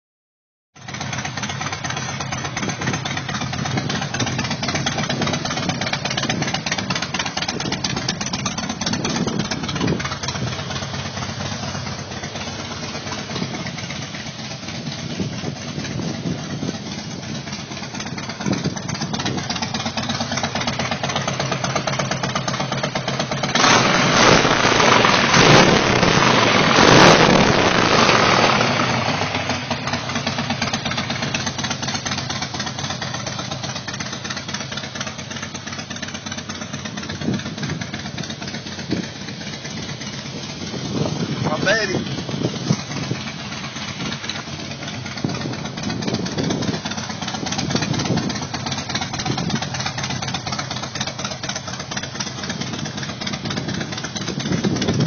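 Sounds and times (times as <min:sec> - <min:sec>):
motorcycle engine idling: 0:00.8 - 0:26.9, 0:27.6 - 0:55.0.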